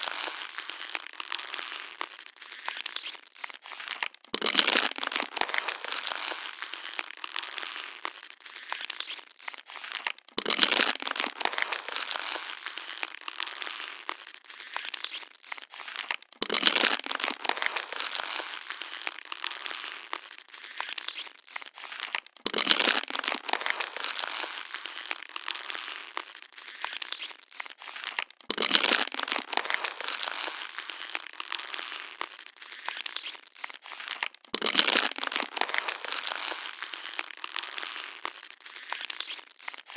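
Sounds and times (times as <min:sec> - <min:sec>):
plastic bottle crunching: 0:00.0 - 0:39.9
plastic crinkling and crackling: 0:00.0 - 0:39.9.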